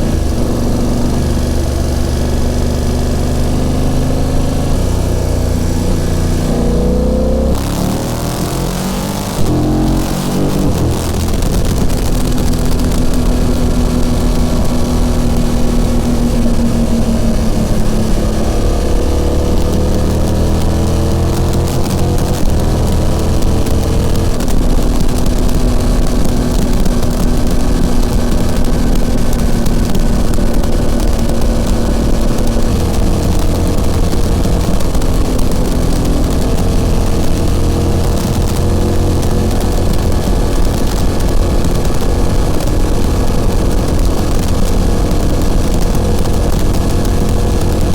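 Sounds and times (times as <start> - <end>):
motorcycle engine running: 0.0 - 47.9
wind noise on microphone: 3.9 - 47.9.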